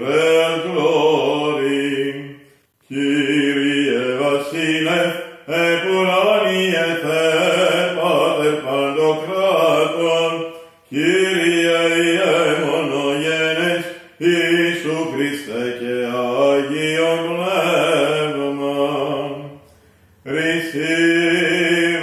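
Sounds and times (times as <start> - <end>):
man chanting: 0.0 - 22.0.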